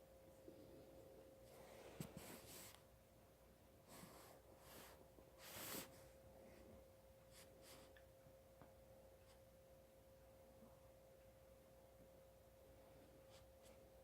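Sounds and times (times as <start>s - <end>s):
faint high-pitched hum: 0.0s - 14.0s.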